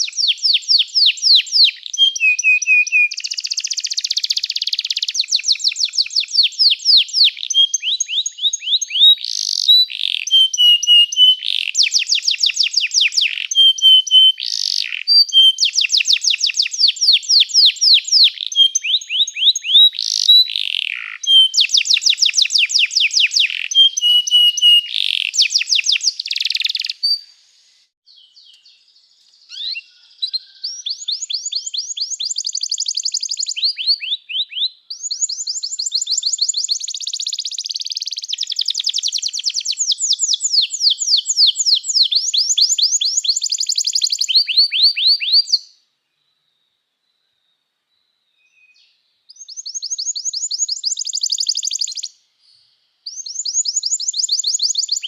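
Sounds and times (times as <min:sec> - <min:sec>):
canary singing trills: 0:00.0 - 0:27.3, 0:28.1 - 0:45.8, 0:48.6 - 0:52.2.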